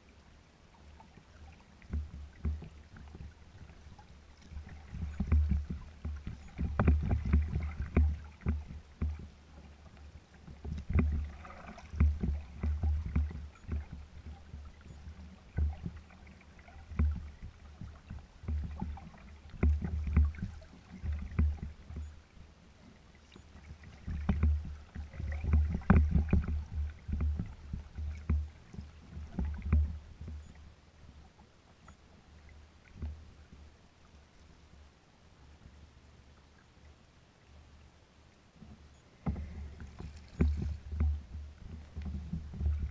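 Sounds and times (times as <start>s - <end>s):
small waves slapping hull: 0.0s - 42.9s.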